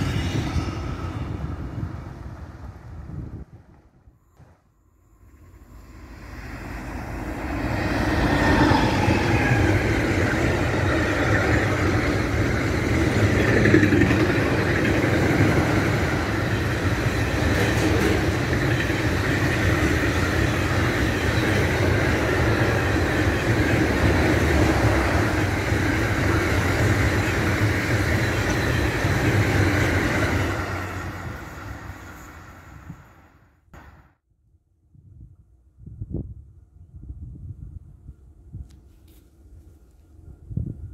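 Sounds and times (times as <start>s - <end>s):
freight train passing: 0.0s - 34.0s
wheels rumbling on rail: 0.0s - 34.0s.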